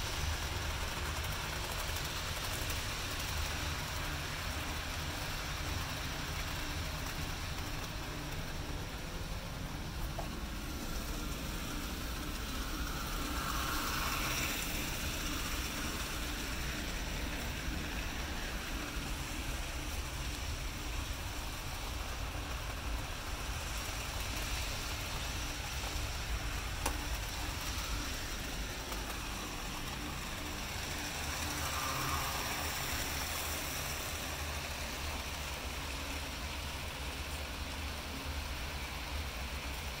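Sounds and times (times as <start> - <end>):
continuous hiss: 0.0 - 40.0
model train wheels rumbling: 0.0 - 40.0.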